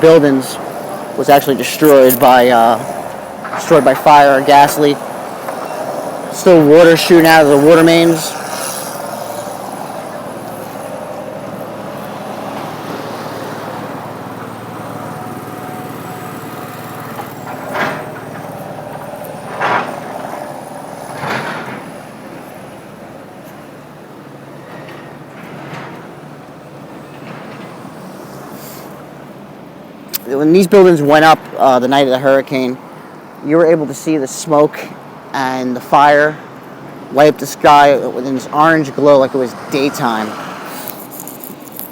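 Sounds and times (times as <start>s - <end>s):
street noise hiss and rumble: 0.0s - 41.9s.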